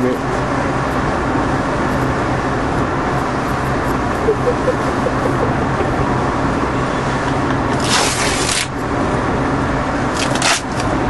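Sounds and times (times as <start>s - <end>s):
constant rushing noise: 0.0s - 11.0s
engine drone: 0.0s - 11.0s.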